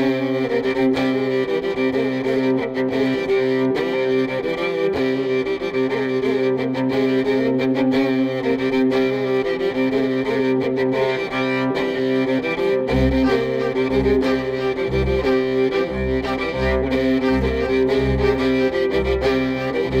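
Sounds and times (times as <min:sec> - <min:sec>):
bowed strings melody: 0:00.0 - 0:20.0.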